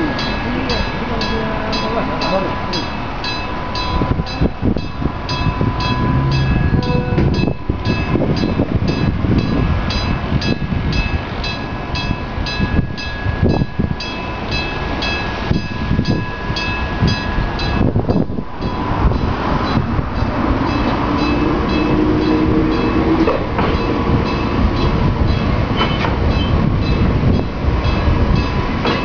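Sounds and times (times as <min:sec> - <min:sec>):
level crossing alarm ringing: 0:00.0 - 0:25.7
wind noise on microphone: 0:03.3 - 0:29.0.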